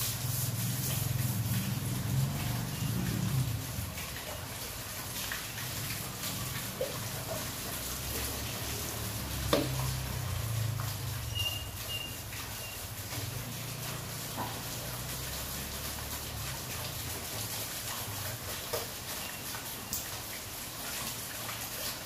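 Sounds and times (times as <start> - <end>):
heavy rain falling: 0.0 - 22.0
water splashing on paving: 0.0 - 22.0.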